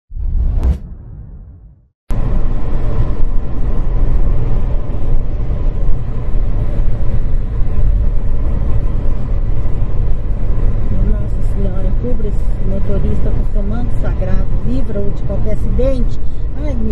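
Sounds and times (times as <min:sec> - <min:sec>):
vehicle engine and road rumble: 0:00.1 - 0:16.9.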